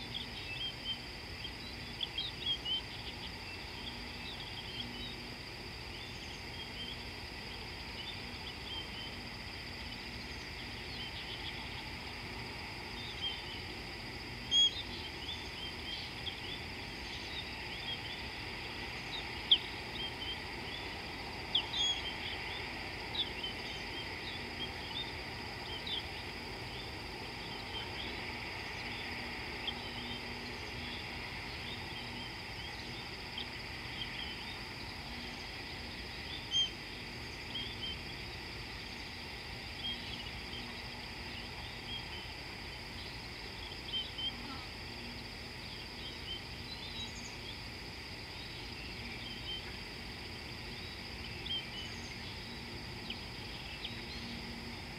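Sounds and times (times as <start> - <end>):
constant high-pitched hiss: 0.0 - 54.9.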